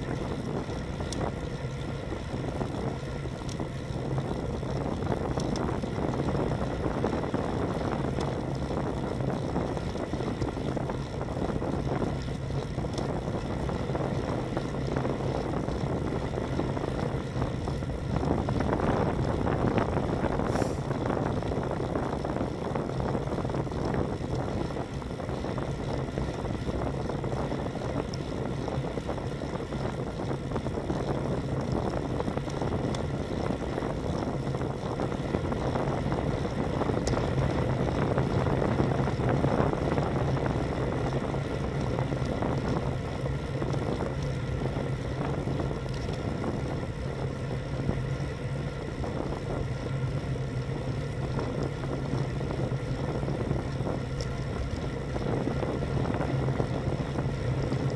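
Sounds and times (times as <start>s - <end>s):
bike tyres rolling on asphalt: 0.0s - 57.9s
low steady hum: 0.0s - 57.9s
wind rush over microphone: 0.0s - 57.9s.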